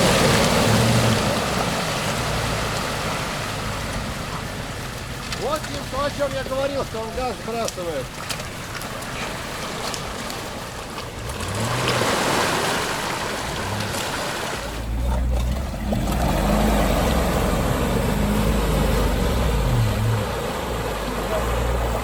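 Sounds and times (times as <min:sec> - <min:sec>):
off-road vehicle engine revving: 0:00.0 - 0:08.2, 0:09.0 - 0:22.0
mud and water splashing: 0:00.0 - 0:22.0.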